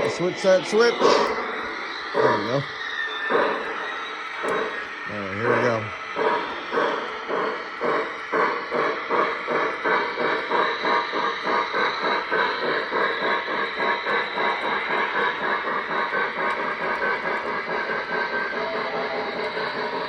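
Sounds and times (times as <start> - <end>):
model steam train chuffing: 0.0 - 20.0.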